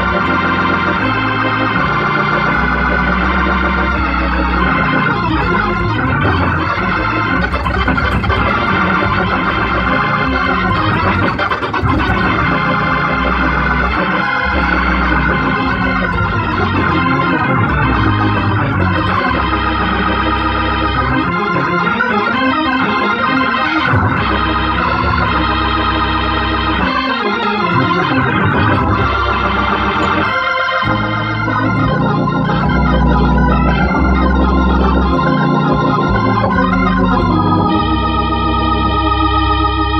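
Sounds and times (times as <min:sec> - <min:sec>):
gospel organ playing: 0:00.0 - 0:39.9.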